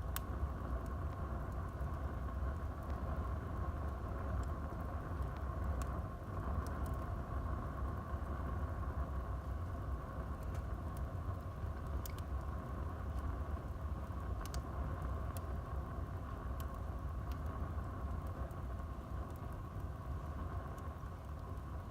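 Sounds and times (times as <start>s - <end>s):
crackles and pops of burning wood: 0.0s - 21.9s
wood fire burning: 0.0s - 21.9s.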